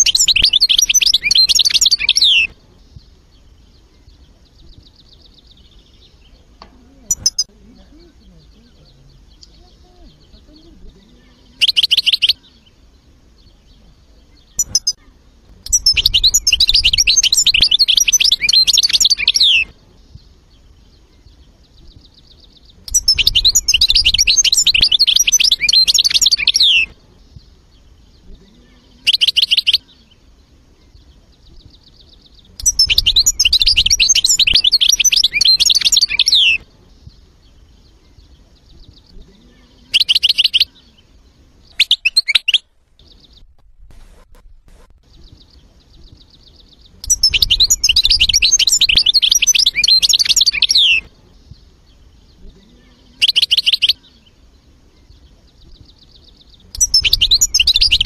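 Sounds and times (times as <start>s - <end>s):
bird chirps: 0.0s - 58.0s
finch twittering and trills: 0.0s - 58.0s.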